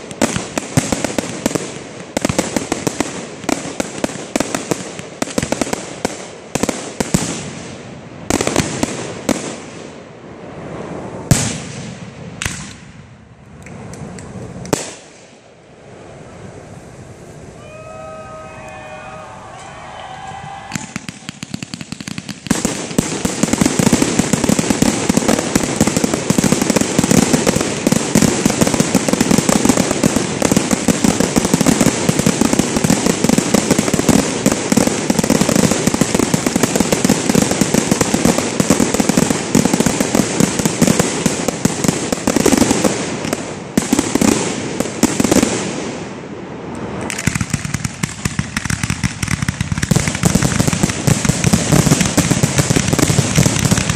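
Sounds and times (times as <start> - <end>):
fireworks bangs and crackle: 0.0 - 16.5, 18.7 - 53.9.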